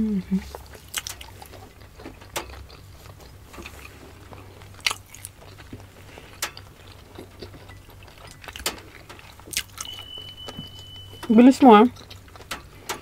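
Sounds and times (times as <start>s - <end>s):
people chewing: 0.1s - 13.0s.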